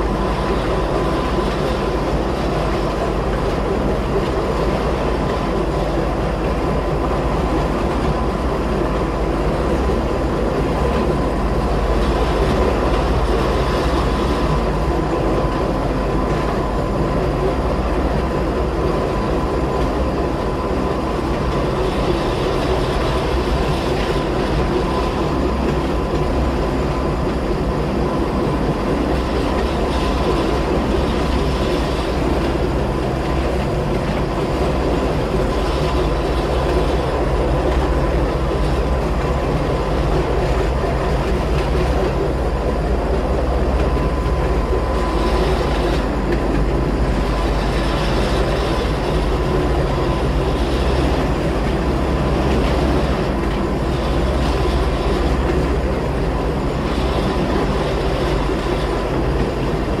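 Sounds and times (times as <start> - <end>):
railcar rumble: 0.0 - 60.0.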